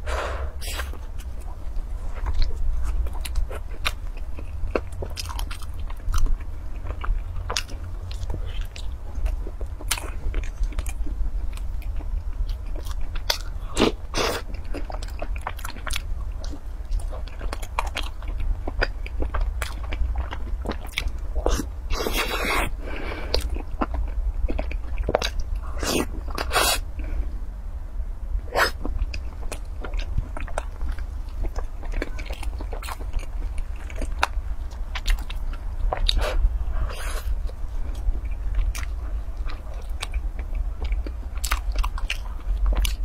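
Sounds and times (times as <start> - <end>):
steady low hum: 0.0 - 43.0
biting and chewing: 0.6 - 27.1, 28.5 - 43.0.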